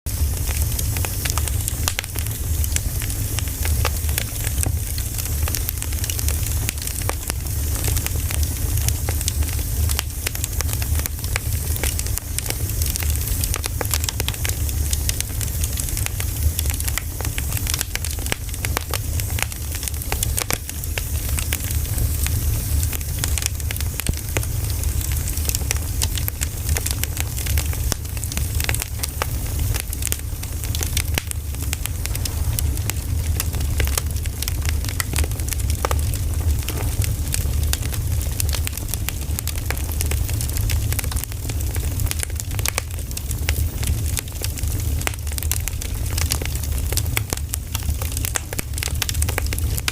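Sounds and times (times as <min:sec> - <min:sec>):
firewood crackling and popping: 0:00.1 - 0:49.9
low fire rumble: 0:00.1 - 0:49.9.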